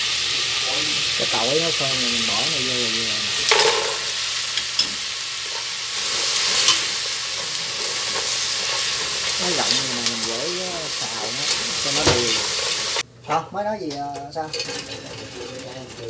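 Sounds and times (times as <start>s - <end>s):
garlic sizzling in hot oil: 0.0s - 13.1s.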